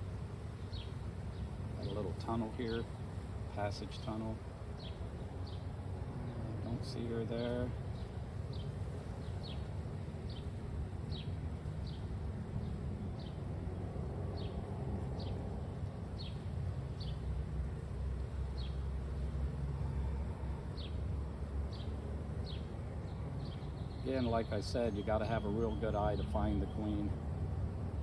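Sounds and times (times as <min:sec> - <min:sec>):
honeybees humming: 0:00.0 - 0:28.0.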